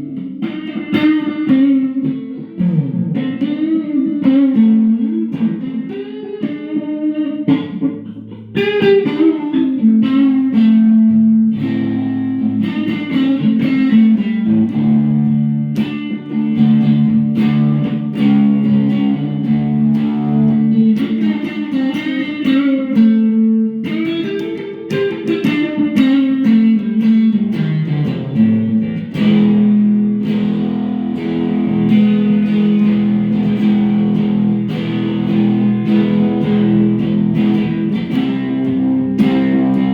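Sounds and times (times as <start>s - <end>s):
bluesy electric guitar: 0.0s - 39.9s.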